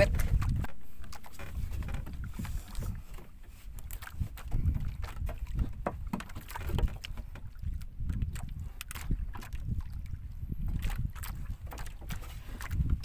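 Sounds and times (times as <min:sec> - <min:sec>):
knocks and clicks in boat hull: 0:00.0 - 0:10.0, 0:10.6 - 0:13.0
wind rumbling on microphone: 0:00.0 - 0:13.0.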